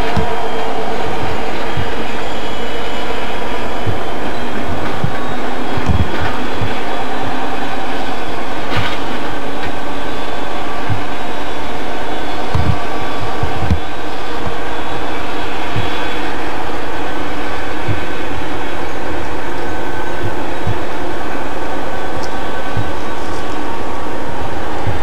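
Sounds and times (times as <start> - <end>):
low thumps of train wheels: 0.0 - 25.0
train wheels rumbling on rails: 0.0 - 25.0.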